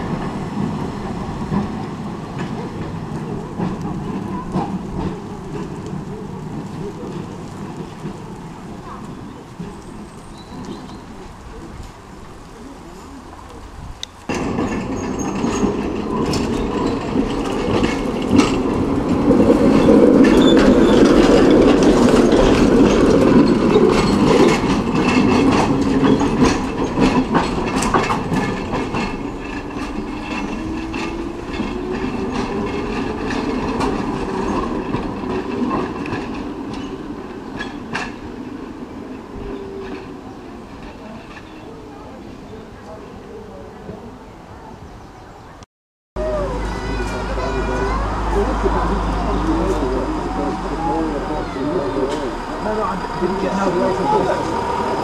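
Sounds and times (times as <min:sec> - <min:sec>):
tram wheels clicking on track: 0:00.0 - 0:43.1, 0:46.2 - 0:55.0.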